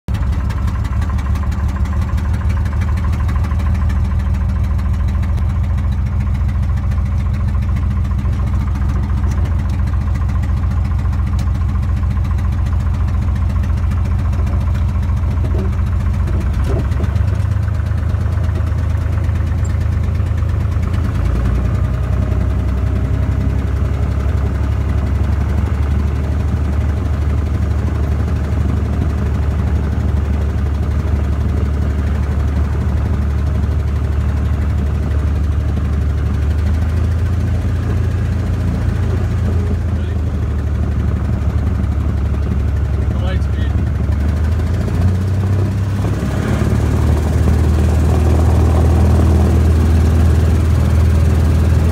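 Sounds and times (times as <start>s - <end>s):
propeller plane engine running: 0.1s - 51.9s.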